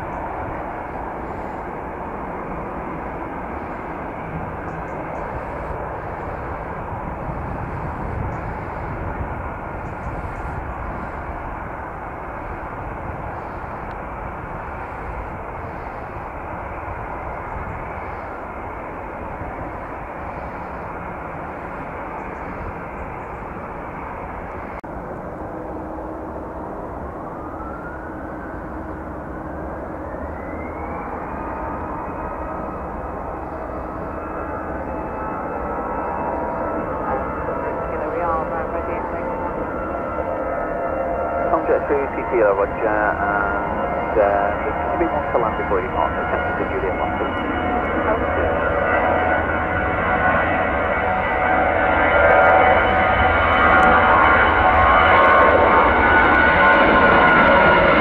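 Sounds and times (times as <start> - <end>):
jet engine whine rising: 0.0 - 58.0
jet engines rumbling: 0.0 - 58.0.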